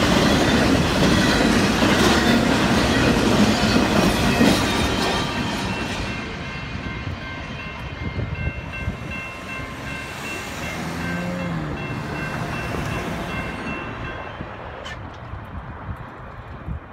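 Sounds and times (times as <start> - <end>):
crossing bells dinging: 0.0 - 14.8
freight train wheels on rails: 0.0 - 16.9.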